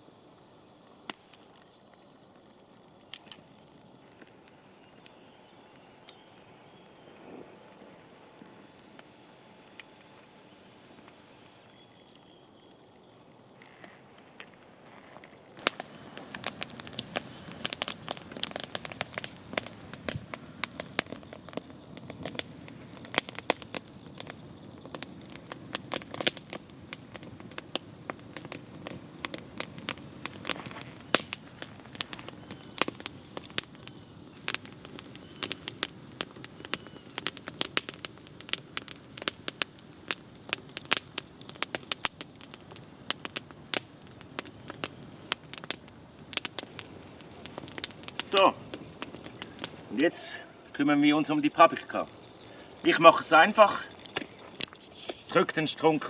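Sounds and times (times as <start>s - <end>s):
campfire crackling and popping: 0.0s - 56.0s
low hiss of burning: 0.0s - 56.0s.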